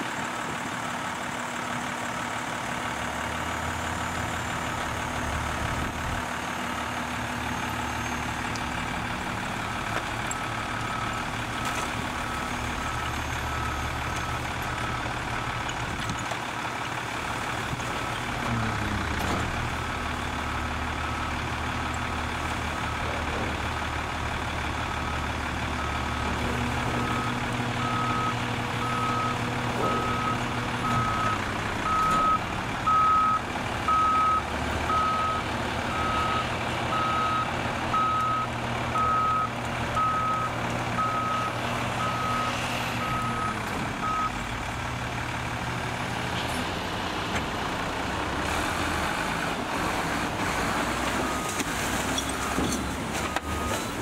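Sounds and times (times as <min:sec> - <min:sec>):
garbage truck diesel engine: 0:00.0 - 0:54.0.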